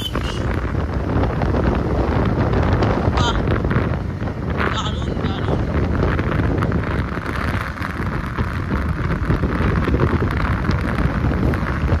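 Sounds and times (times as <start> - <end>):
motorbike engine rumble: 0.0 - 12.0
wind rushing over microphone: 0.0 - 12.0.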